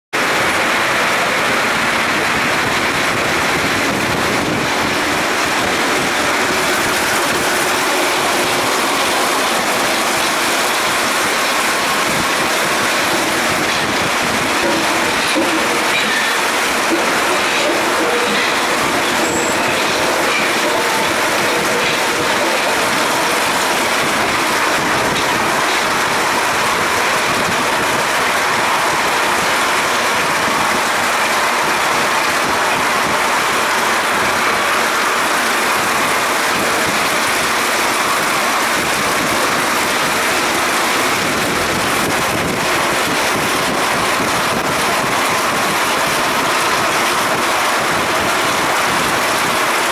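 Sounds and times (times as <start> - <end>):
train rolling through tunnel: 0.2 - 49.9.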